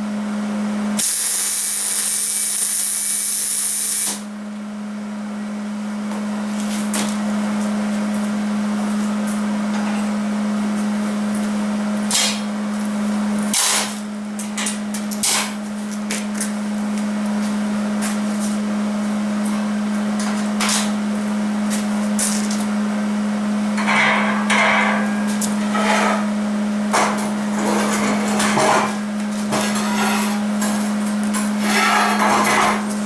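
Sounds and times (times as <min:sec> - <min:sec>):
steady low hum: 0:04.2 - 0:33.0.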